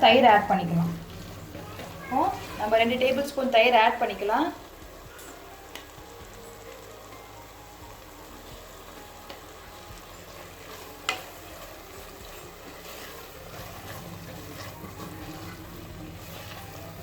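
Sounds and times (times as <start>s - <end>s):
masala sizzling while stirred: 0.0s - 17.0s.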